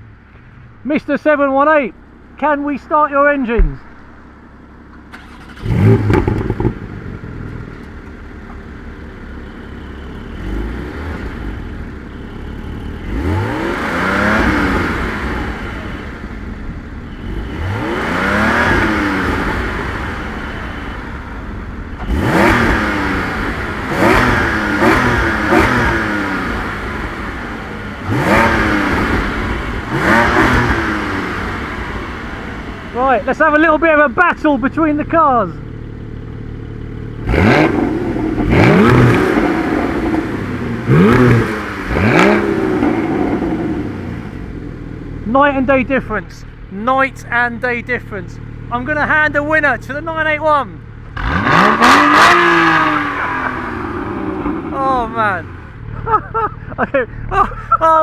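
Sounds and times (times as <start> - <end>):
car engine starting and revving: 2.0 - 58.0.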